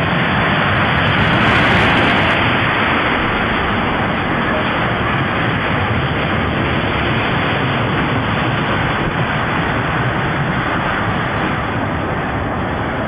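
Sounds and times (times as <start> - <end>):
roller coaster cars rumbling on track: 0.0 - 13.0
wind rushing over microphone: 0.0 - 13.0.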